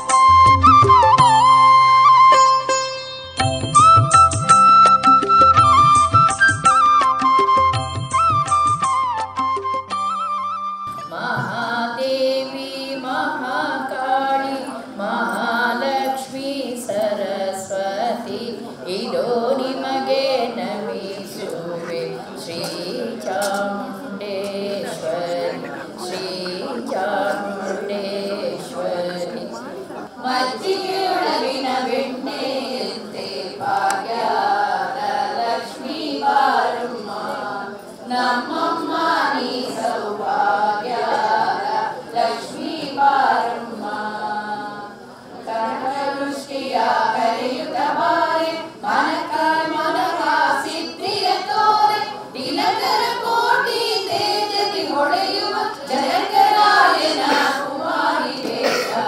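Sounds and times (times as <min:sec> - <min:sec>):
group of voices singing: 0:10.9 - 0:59.0.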